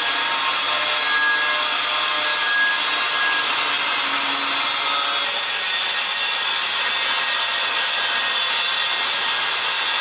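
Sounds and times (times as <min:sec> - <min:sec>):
angle grinder cutting steel: 0:00.0 - 0:10.0.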